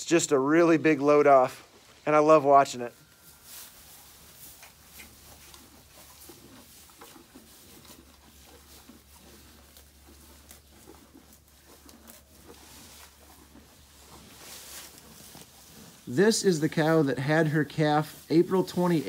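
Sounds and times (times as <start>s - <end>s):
rustling in straw: 0.6s - 19.0s.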